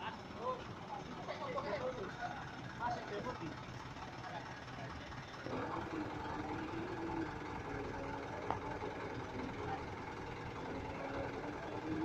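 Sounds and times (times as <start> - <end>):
truck engine running slowly: 0.0 - 12.0.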